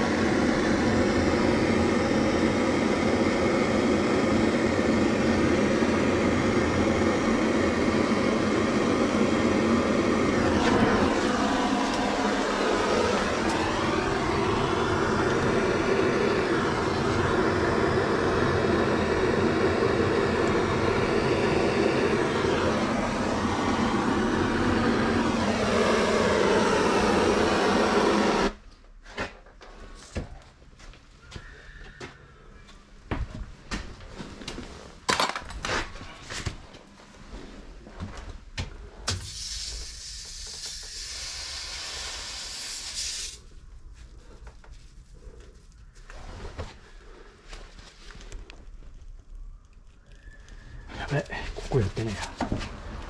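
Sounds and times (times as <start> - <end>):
gas torch burning: 0.0 - 28.7, 37.3 - 53.0.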